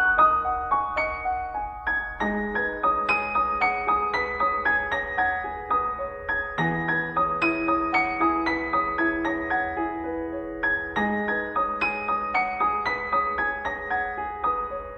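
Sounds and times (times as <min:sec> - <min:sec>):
piano music: 0:00.0 - 0:14.9.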